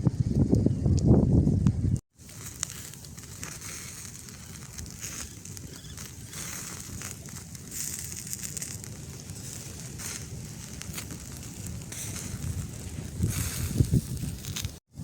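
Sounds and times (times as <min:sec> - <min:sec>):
wood fire crackling: 0:02.1 - 0:15.0.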